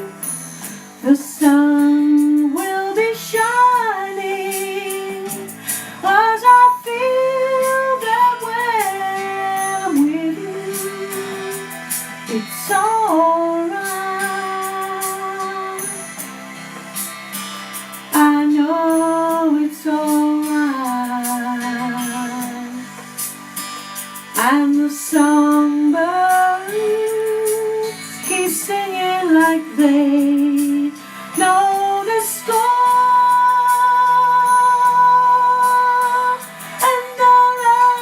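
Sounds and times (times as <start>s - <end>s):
woman singing a slow ballad: 0.0s - 16.3s, 18.1s - 23.2s, 24.3s - 38.0s
instrumental accompaniment: 0.0s - 38.0s.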